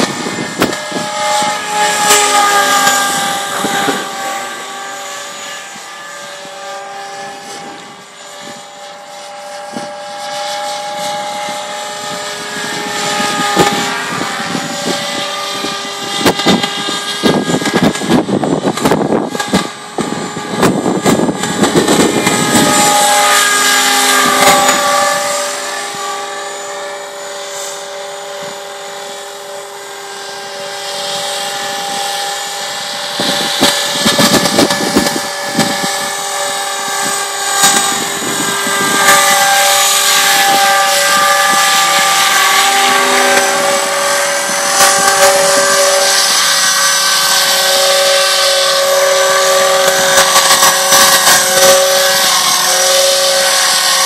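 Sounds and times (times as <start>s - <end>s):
model helicopter motor and rotor whine: 0.0s - 54.0s.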